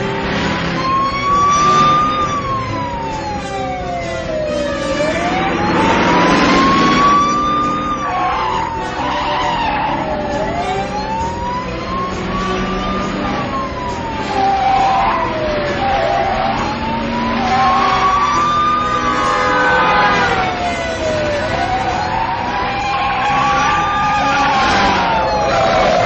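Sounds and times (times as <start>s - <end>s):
cars driven hard: 0.0s - 26.0s
wailing vehicle siren: 0.0s - 26.0s.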